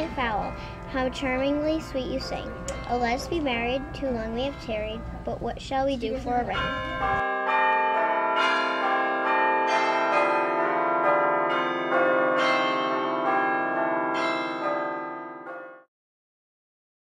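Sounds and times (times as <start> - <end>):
bells ringing a peal: 0.0 - 15.9.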